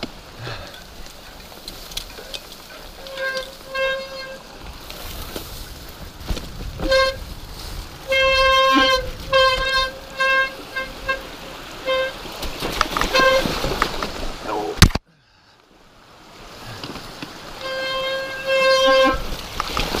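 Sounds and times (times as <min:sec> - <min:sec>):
tyres rumbling on trail: 0:00.0 - 0:20.0.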